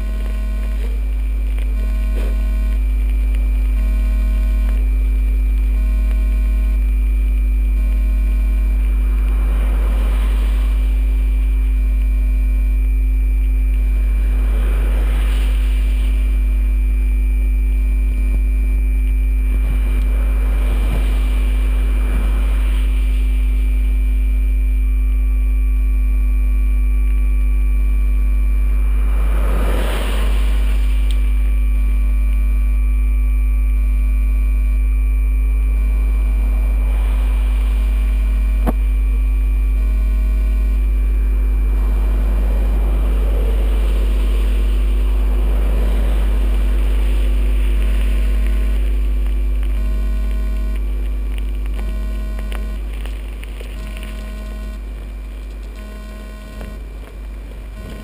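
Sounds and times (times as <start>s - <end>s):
loud electrical hum: 0.0s - 58.0s
whining tones: 0.0s - 58.0s.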